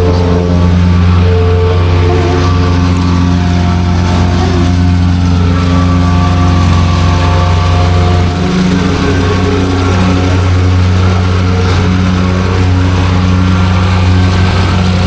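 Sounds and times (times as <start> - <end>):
plate compactor engine drone: 0.0 - 15.0.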